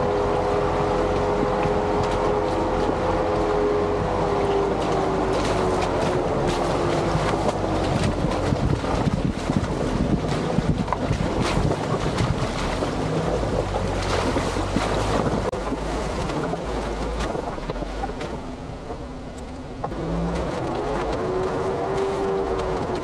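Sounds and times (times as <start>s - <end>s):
vehicle engine running: 0.0s - 23.0s
wind on microphone: 0.0s - 23.0s.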